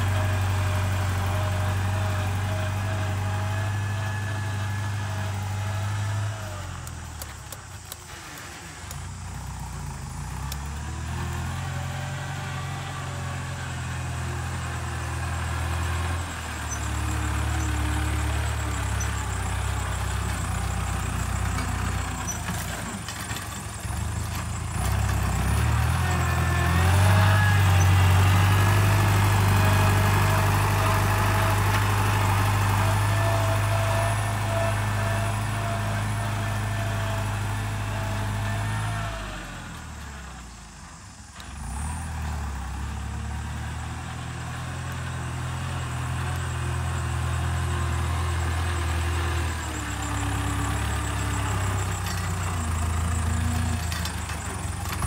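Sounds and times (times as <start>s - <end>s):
tractor diesel engine under load: 0.0s - 55.0s
tractor ripping stony ground: 0.0s - 55.0s.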